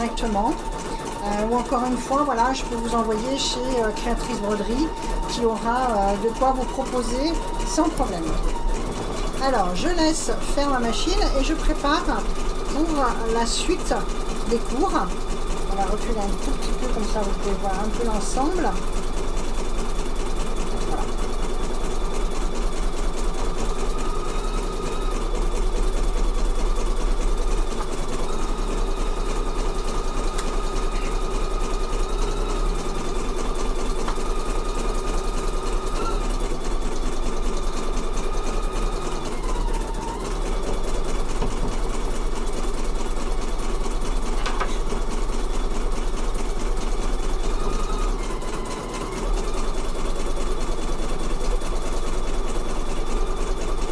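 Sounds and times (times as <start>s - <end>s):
embroidery machine stitching: 0.0s - 53.9s.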